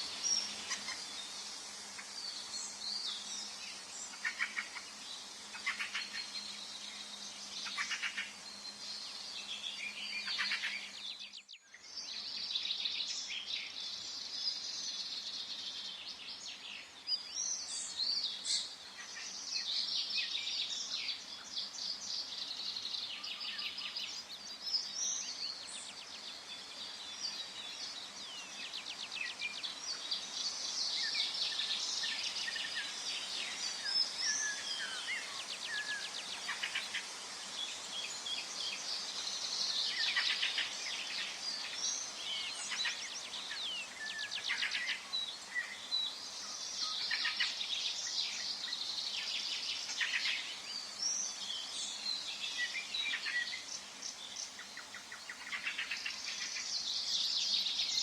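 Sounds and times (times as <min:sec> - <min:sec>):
faint steady background hiss: 0:00.0 - 0:58.0
songbirds singing and calling: 0:00.0 - 0:58.0.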